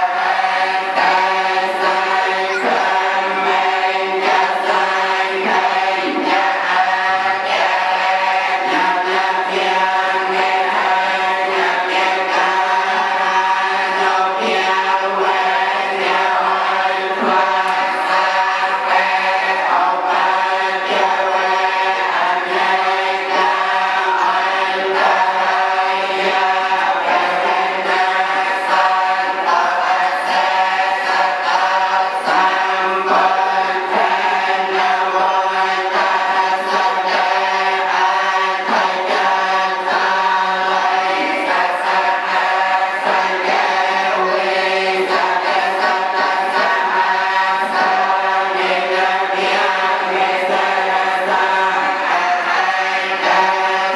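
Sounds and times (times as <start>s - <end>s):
many voices chanting together: 0.0s - 53.9s.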